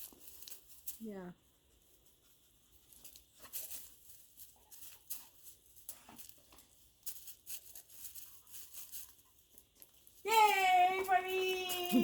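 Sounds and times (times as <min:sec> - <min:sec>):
dog sniffing and rustling: 0:00.0 - 0:12.0.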